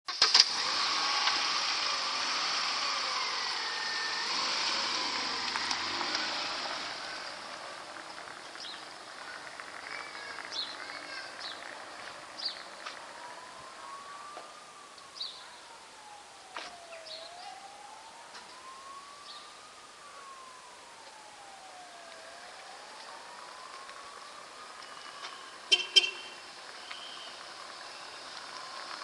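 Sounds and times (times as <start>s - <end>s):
car pulling away: 0.1s - 19.4s, 20.2s - 29.0s
siren wailing: 0.5s - 29.0s.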